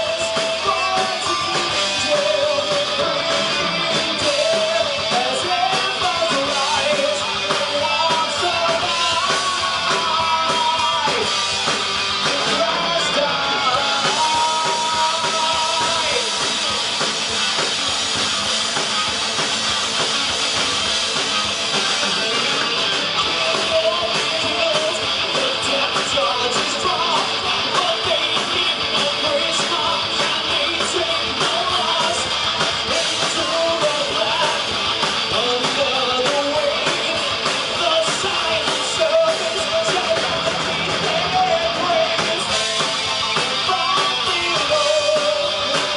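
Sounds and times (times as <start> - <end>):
lead singer singing: 0.0 - 17.0, 22.2 - 45.9
drums: 0.0 - 45.9
electric guitars: 0.0 - 45.9.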